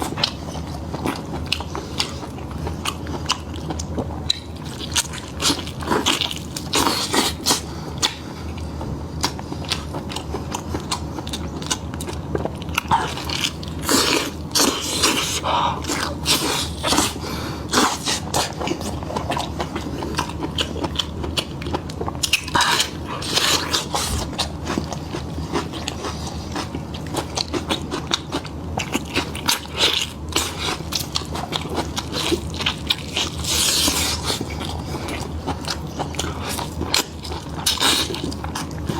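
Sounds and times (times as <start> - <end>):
chewing meat: 0.0 - 38.9
steady low hum: 0.0 - 38.9.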